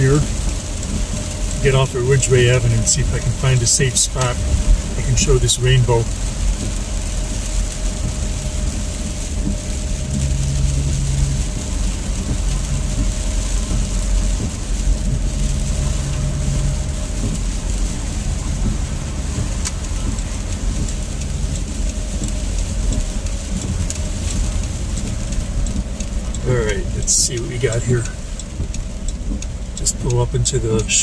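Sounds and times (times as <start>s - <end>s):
car cabin road rumble: 0.0s - 31.0s.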